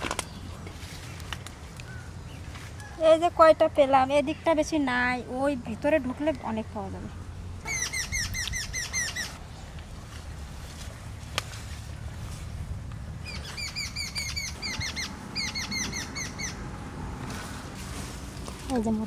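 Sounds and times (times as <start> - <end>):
songbird chirping: 0.0 - 16.8.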